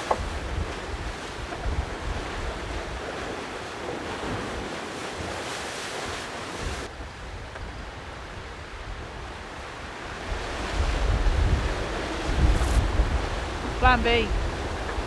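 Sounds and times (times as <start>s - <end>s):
wind buffeting microphone: 0.0s - 5.3s, 6.5s - 15.0s
rushing sea water: 0.0s - 15.0s.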